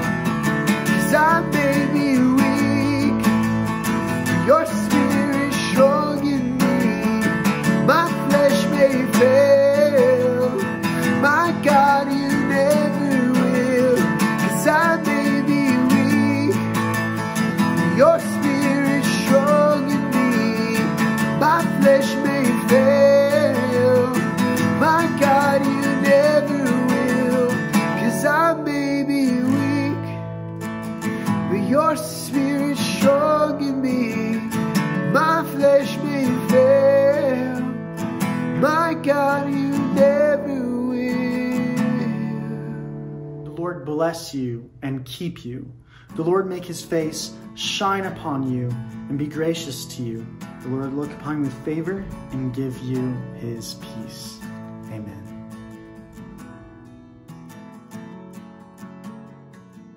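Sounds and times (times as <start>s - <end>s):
man singing: 0.0s - 30.3s, 31.0s - 55.6s
acoustic guitar strumming: 0.0s - 59.9s.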